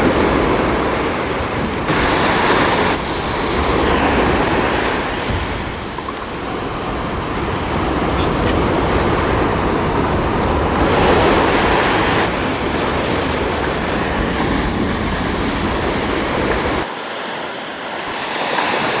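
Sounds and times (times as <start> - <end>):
ocean surf: 0.0 - 19.0
wind buffeting microphone: 0.0 - 19.0.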